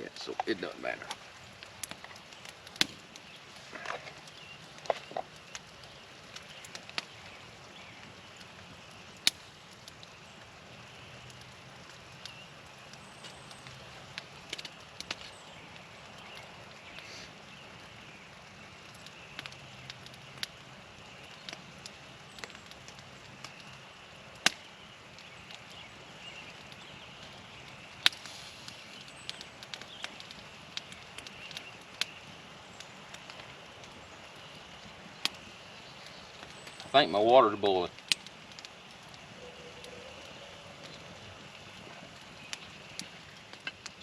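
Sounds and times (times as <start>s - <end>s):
campfire crackling: 0.0s - 44.0s
sharp pops of burning wood: 0.0s - 44.0s
steady fire hiss: 0.0s - 44.0s.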